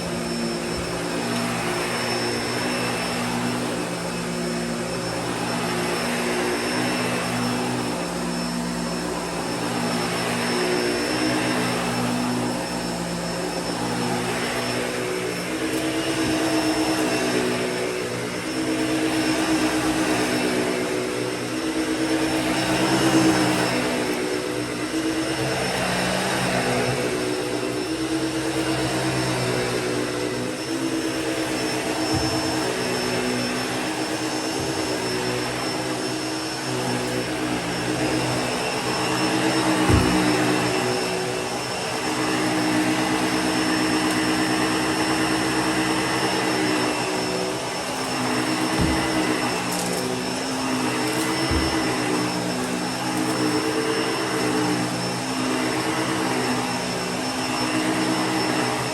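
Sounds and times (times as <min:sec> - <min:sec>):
upright vacuum running: 0:00.0 - 0:58.9.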